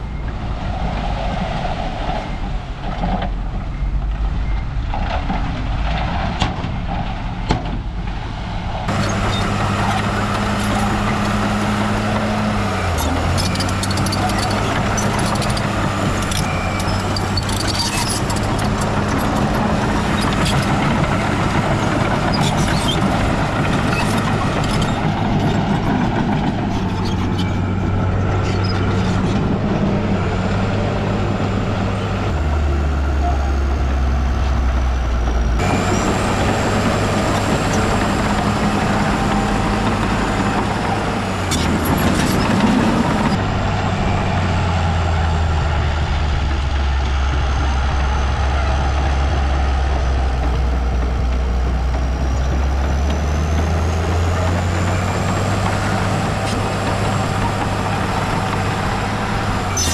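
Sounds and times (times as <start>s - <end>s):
heavy diesel machinery running: 0.0s - 59.9s.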